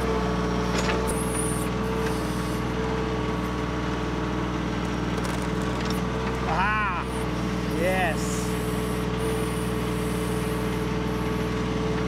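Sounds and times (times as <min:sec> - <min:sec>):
backhoe bucket digging dirt: 0:00.0 - 0:03.6, 0:04.7 - 0:12.0
diesel tractor engine running: 0:00.0 - 0:12.0.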